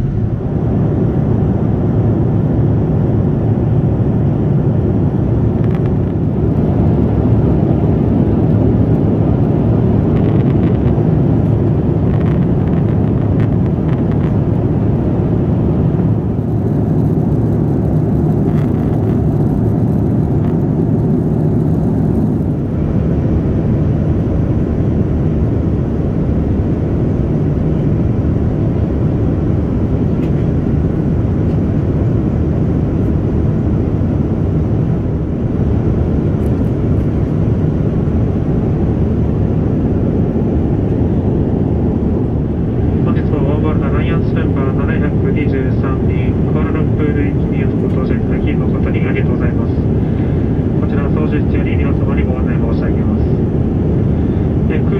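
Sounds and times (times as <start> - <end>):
airliner cabin engine rumble: 0.0 - 54.9.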